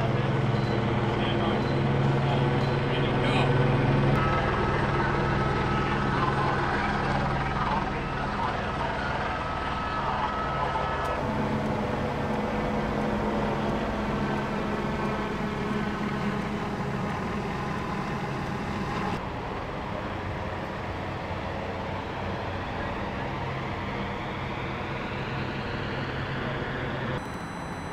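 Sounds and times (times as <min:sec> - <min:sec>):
street noise: 0:00.0 - 0:27.9
vehicle engines humming: 0:00.0 - 0:27.9.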